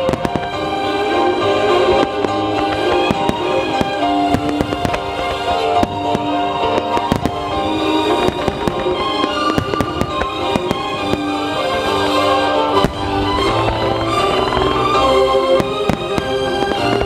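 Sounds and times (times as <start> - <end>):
fireworks bursting: 0.0 - 17.0
music with long held notes: 0.0 - 17.0.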